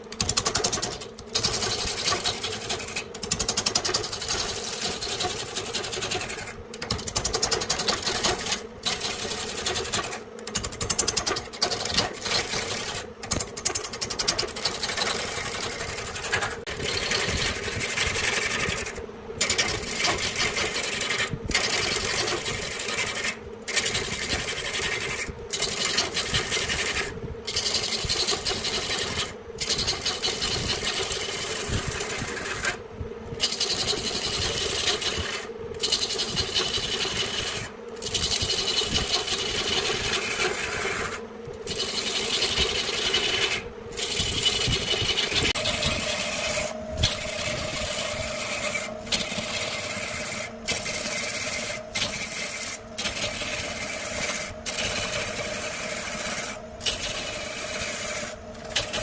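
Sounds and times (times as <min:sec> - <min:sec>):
gouge cutting spinning wood: 0:00.0 - 0:59.0
lathe motor hum: 0:00.0 - 0:59.0.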